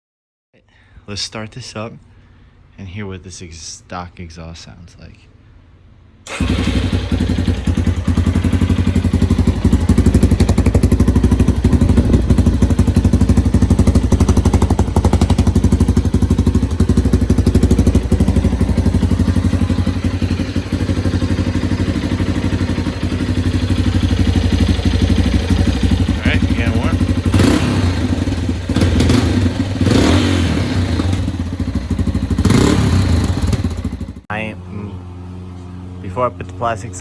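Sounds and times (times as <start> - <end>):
dirt bike engine idling: 6.3 - 37.0.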